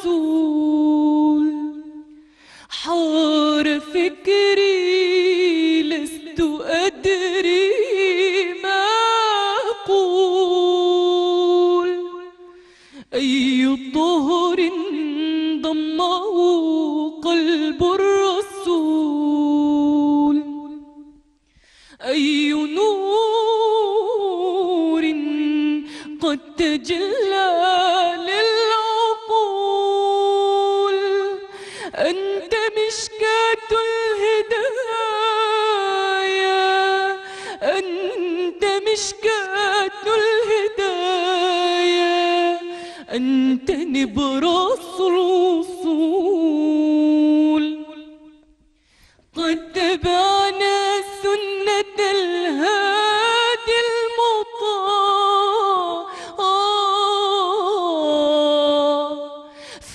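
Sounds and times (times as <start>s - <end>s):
woman singing unaccompanied: 0.0s - 21.4s, 22.0s - 48.5s, 49.4s - 59.9s.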